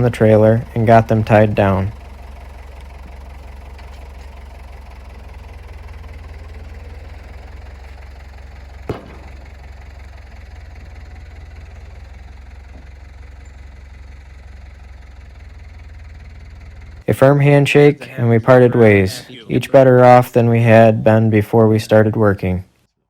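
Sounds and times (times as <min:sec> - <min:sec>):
engine idling: 0:00.0 - 0:22.2.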